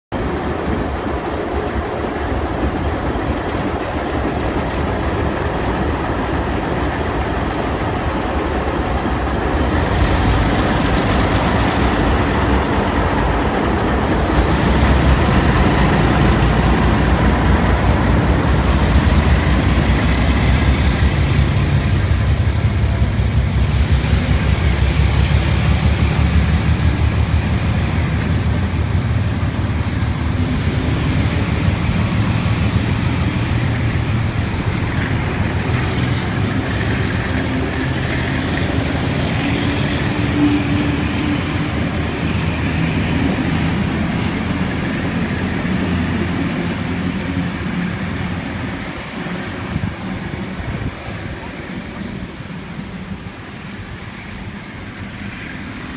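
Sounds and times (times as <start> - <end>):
train passing on rails: 0.0 - 55.9.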